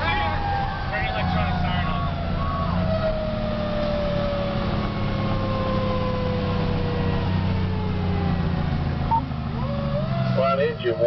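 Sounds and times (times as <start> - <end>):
mechanical siren winding down: 0.0 - 11.0
truck engine drone: 0.0 - 11.0.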